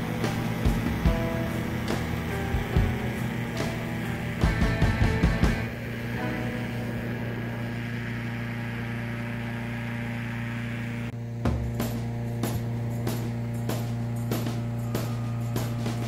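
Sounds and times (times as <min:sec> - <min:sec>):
low droning background music: 0:00.0 - 0:16.0.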